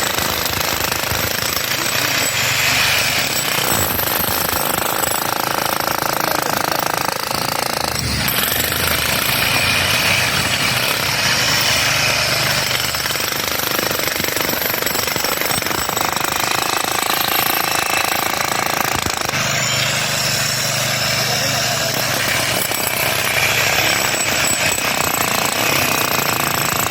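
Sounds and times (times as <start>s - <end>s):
construction machine hammering: 0.0s - 26.9s.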